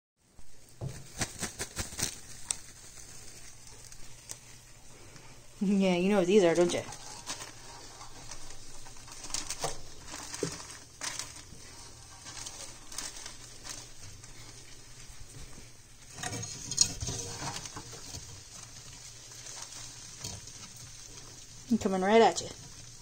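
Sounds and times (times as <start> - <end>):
plastic bag crinkling: 0.6 - 23.0.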